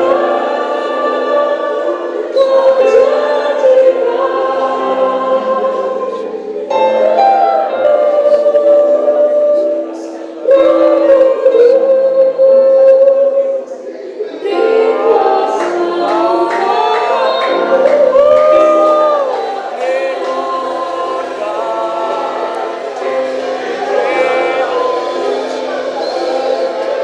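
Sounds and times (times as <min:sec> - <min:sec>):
many voices singing together: 0:00.0 - 0:27.0.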